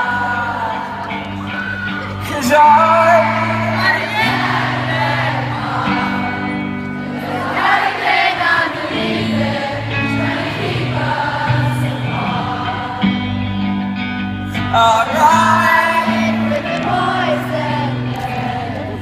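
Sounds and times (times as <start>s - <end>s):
crowd singing along: 0.0s - 19.0s
pop-rock band playing: 0.0s - 19.0s.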